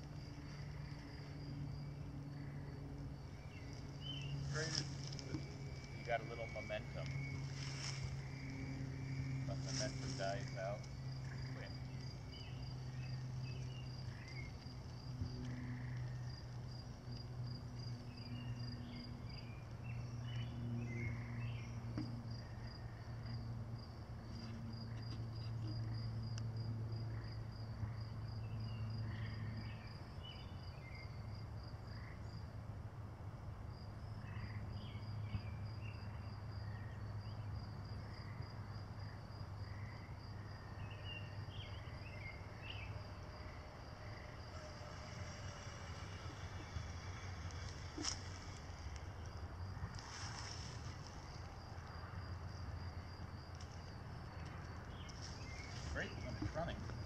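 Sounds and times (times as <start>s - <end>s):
insect trilling: 0.0s - 32.4s, 34.2s - 57.0s
low hum: 0.0s - 57.0s.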